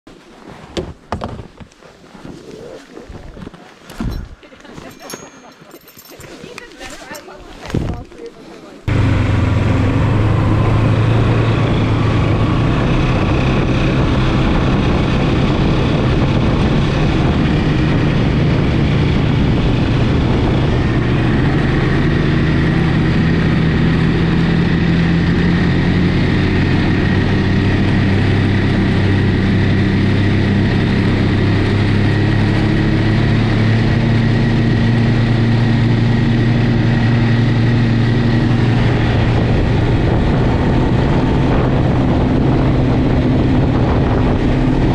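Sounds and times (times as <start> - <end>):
snowmobile engine running: 2.0 - 44.9.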